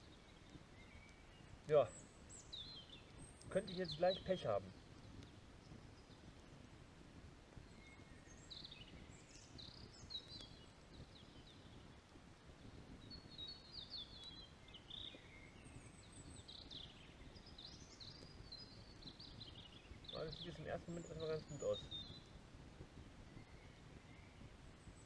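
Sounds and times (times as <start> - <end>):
songbird chirping and trilling: 0.0 - 6.3, 7.6 - 22.4
outdoor background hush: 0.0 - 25.0.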